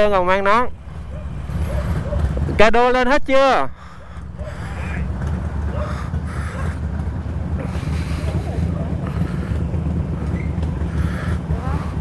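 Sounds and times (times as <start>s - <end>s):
faint voices: 0.0s - 12.0s
motorcycle engine idling: 0.0s - 12.0s.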